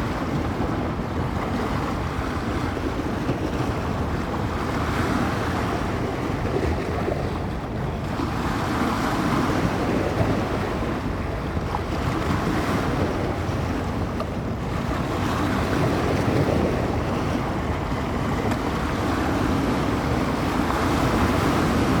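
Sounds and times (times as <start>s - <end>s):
waves breaking on shore: 0.0s - 22.0s
wind buffeting microphone: 0.0s - 22.0s.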